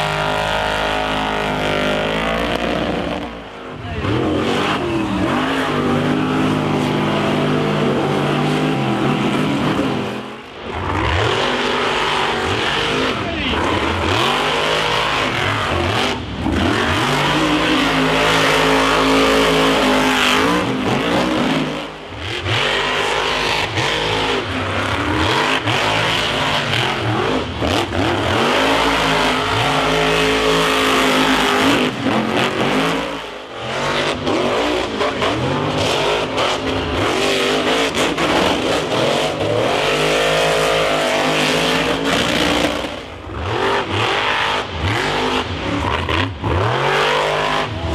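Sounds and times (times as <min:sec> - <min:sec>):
monster truck engine revving: 0:00.0 - 0:47.9.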